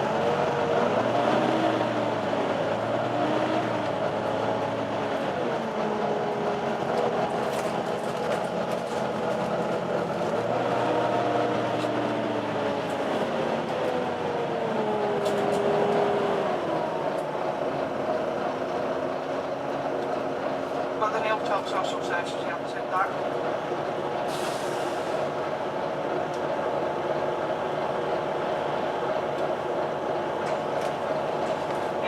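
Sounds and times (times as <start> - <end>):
bus engine and road noise: 0.0 - 32.0.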